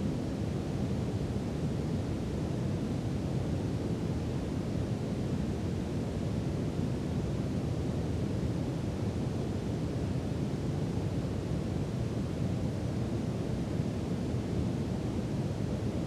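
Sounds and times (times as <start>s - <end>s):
brown noise rumbling hiss: 0.0s - 16.0s.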